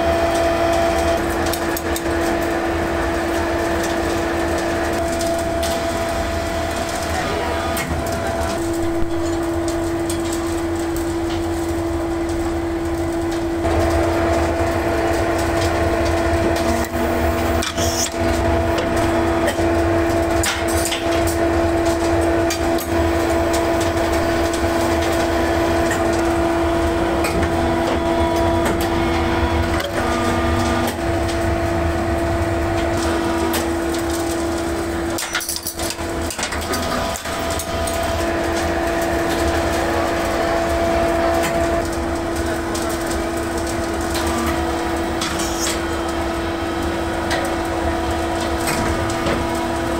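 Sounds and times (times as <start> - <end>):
die-casting machine humming: 0.0 - 49.9.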